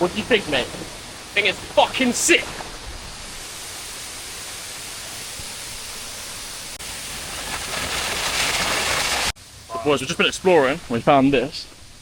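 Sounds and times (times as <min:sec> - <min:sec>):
waterfall rushing water: 0:00.0 - 0:11.2.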